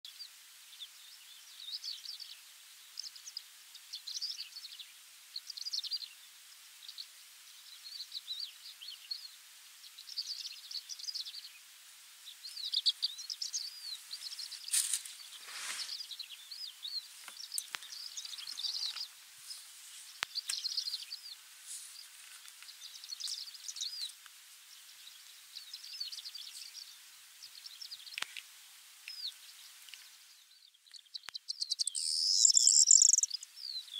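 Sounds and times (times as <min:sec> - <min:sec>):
lark singing high chirps: 0:00.1 - 0:11.7, 0:12.3 - 0:21.4, 0:22.0 - 0:28.4, 0:29.1 - 0:33.9
second lark singing: 0:00.1 - 0:28.4, 0:29.0 - 0:33.9.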